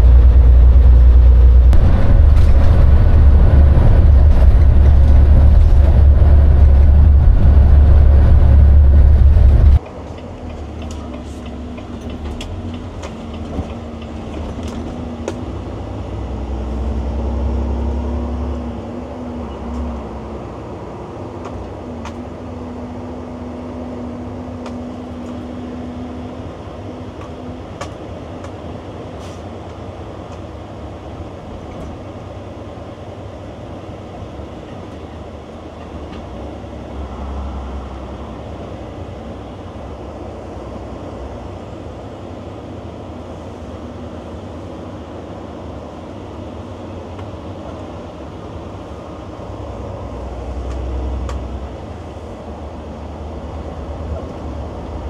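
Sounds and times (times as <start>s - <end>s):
truck diesel engine rumble: 0.0s - 29.9s, 30.8s - 55.0s.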